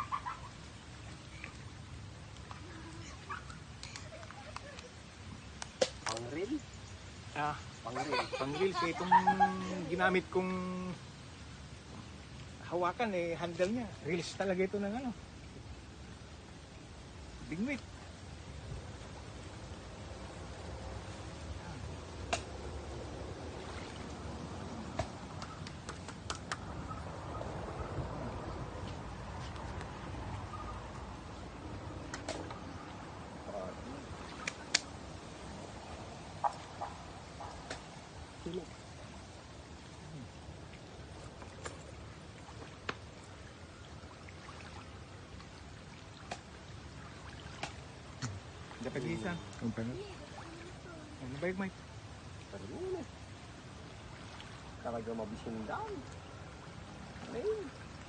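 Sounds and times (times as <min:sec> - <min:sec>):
faint watery wash: 0:00.0 - 0:58.0.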